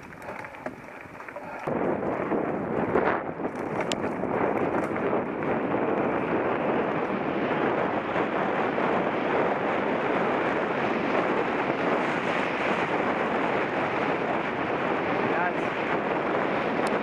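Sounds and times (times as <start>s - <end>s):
mountain bike riding noise: 0.0s - 17.0s
wind rushing over microphone: 0.0s - 17.0s.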